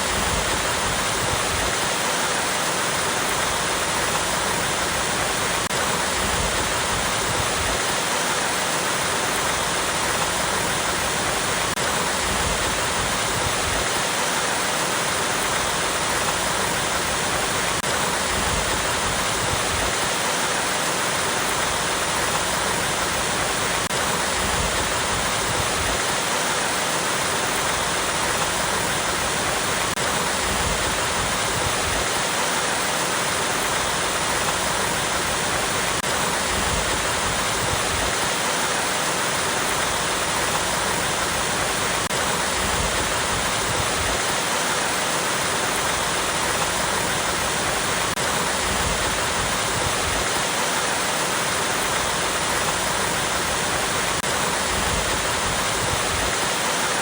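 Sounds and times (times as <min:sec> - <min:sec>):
waterfall cascading over rocks: 0:00.0 - 0:57.0.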